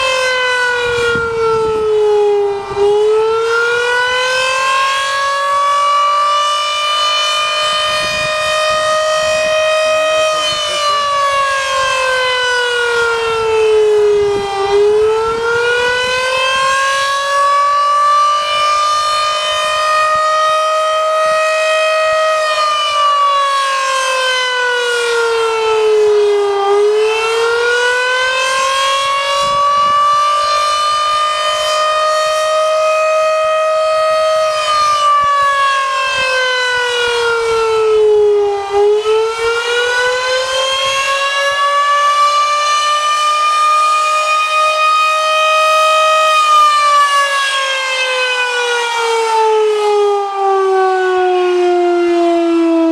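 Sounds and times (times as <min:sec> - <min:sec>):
air-raid siren wailing: 0:00.0 - 0:52.9.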